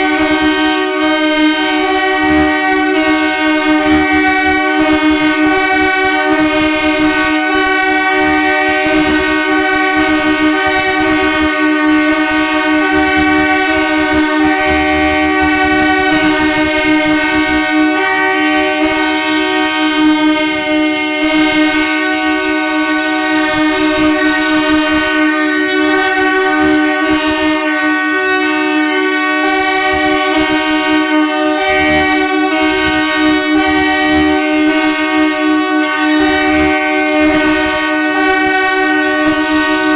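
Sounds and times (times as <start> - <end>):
train horns chord: 0.0 - 39.9.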